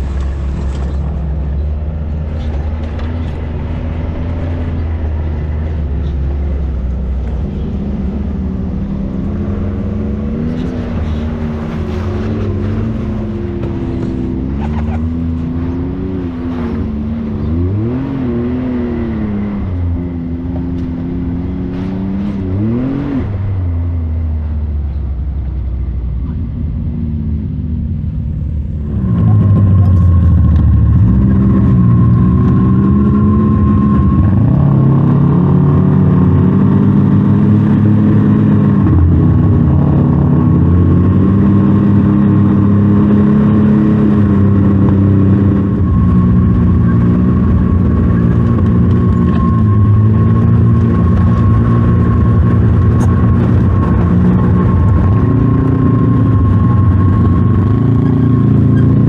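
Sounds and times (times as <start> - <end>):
steady high whine: 0.0 - 59.0
utv engine revving: 0.0 - 59.0.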